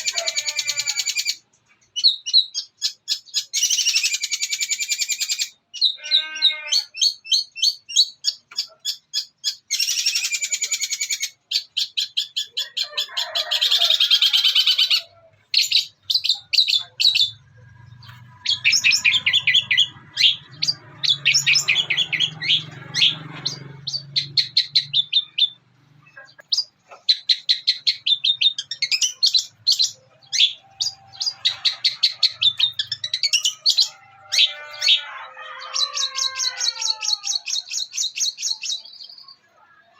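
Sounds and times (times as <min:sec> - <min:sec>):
shrike singing chattering song: 0:00.0 - 0:39.4.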